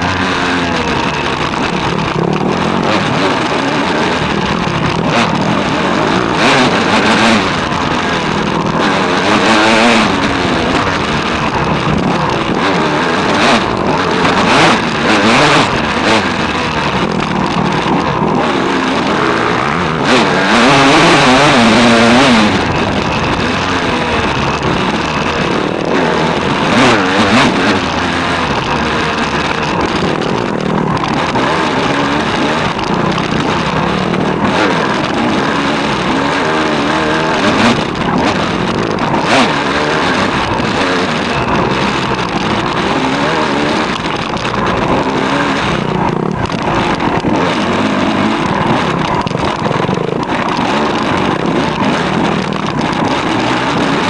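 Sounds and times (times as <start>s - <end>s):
dirt bike engine revving: 0.0s - 54.0s
wind noise: 0.0s - 54.0s.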